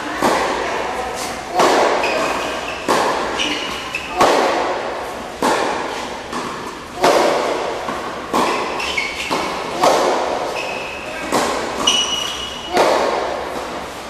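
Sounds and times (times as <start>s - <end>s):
tennis balls struck by rackets: 0.2s - 14.0s
tennis ball bounces: 1.4s - 14.0s.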